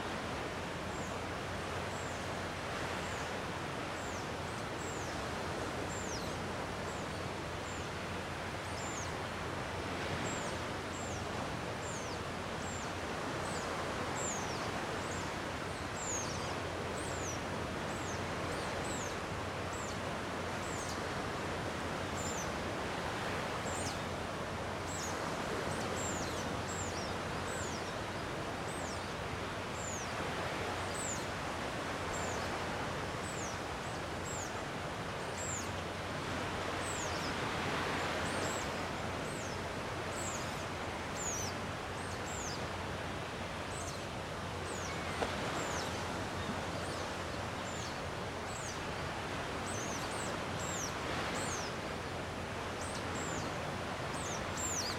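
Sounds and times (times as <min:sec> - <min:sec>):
sea waves washing ashore: 0:00.0 - 0:54.9.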